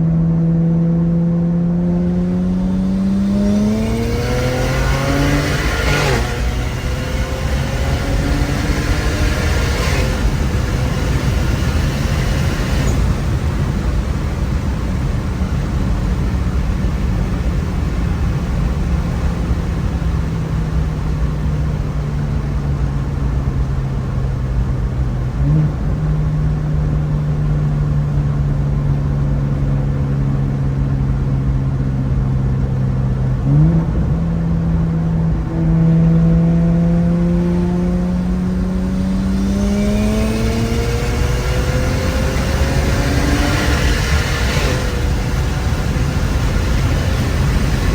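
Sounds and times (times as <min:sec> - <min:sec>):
car engine cruising: 0:00.0 - 0:47.9
road noise: 0:00.0 - 0:47.9.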